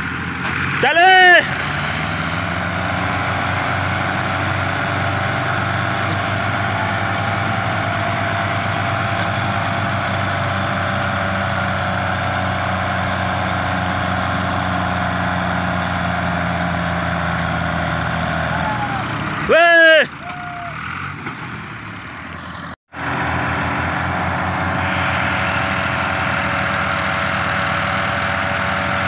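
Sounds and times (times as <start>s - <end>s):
tractor diesel engines running: 0.0s - 29.0s.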